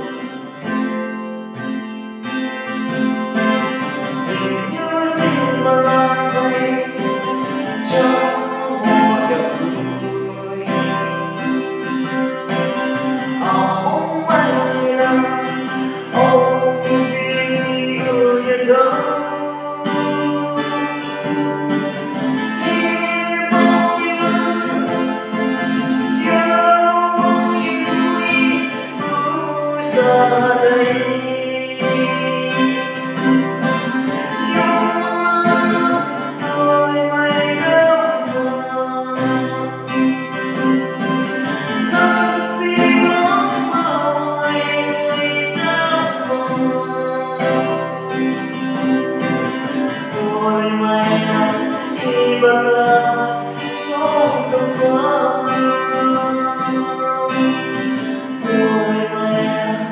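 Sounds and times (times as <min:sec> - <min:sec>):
man singing: 0:00.0 - 0:01.2, 0:02.4 - 0:59.9
acoustic guitar strumming: 0:00.0 - 0:59.9.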